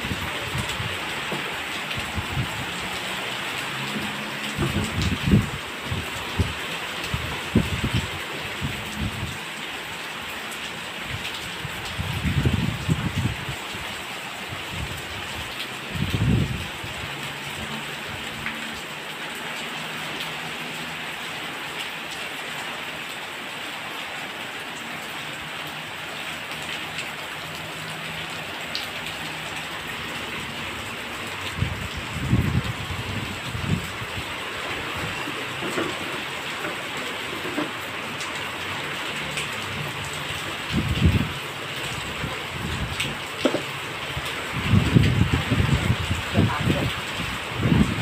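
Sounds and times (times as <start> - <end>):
heavy rain on puddles: 0.0 - 48.0.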